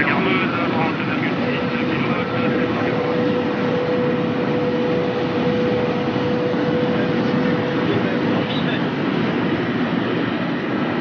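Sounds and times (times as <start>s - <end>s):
high-speed train rushing: 0.0s - 11.0s
steady hum: 0.0s - 11.0s.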